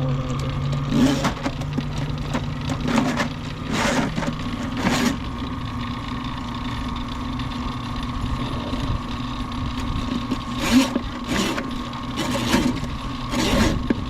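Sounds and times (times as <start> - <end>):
drain cleaning machine motor: 0.0 - 14.0.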